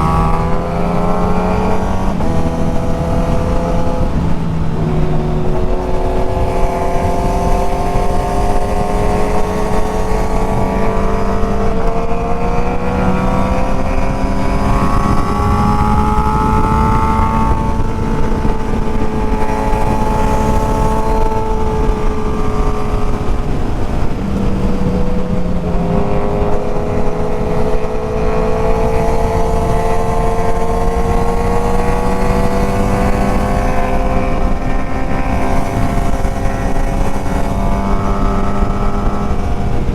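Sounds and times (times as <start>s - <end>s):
motorcycle engine revving: 0.0s - 39.9s
wind rush on microphone: 0.0s - 39.9s.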